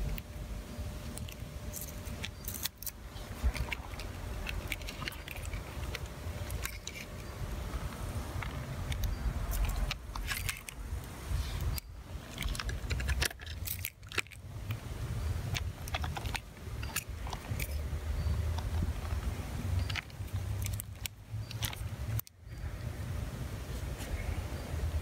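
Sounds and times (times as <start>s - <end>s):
scraping over loose ballast: 1.2s - 22.0s.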